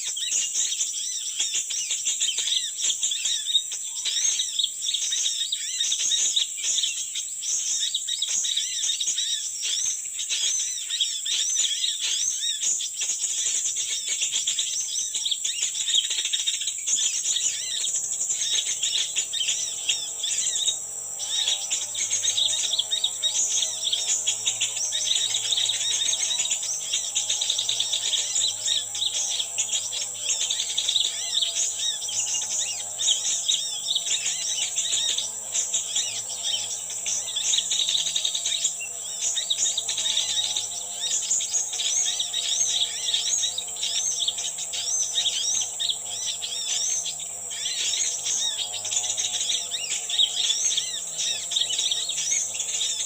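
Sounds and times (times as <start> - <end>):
birds chirping and calling: 0.0 - 53.0
insects trilling: 0.0 - 53.0
wavering repeated calls: 0.0 - 53.0.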